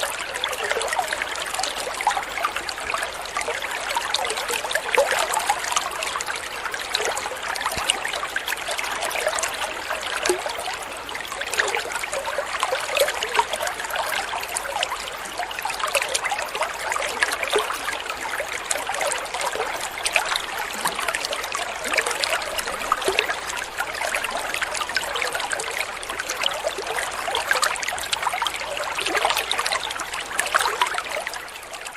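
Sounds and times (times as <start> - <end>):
water trickling: 0.0 - 31.9.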